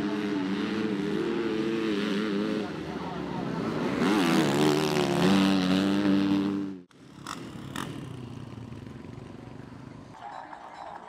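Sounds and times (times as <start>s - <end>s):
motocross bike engine revving: 0.0s - 10.1s.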